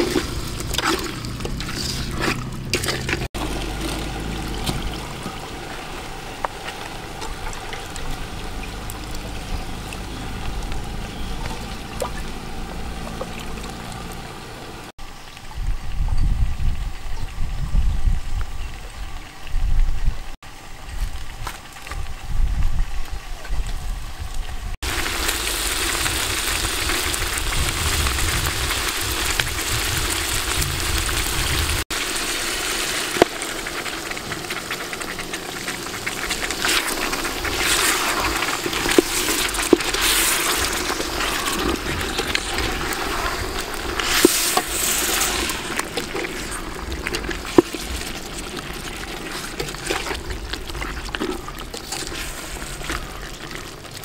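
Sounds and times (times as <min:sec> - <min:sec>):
food sizzling and bubbling in pot: 0:00.0 - 0:54.0.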